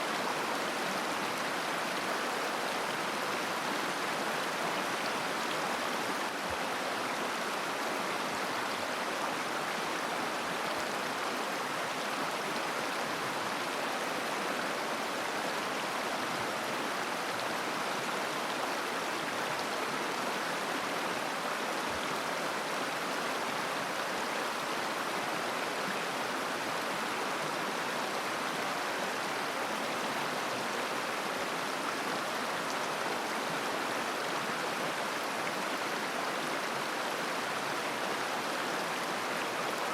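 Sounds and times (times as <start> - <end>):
river babbling: 0.0 - 39.9.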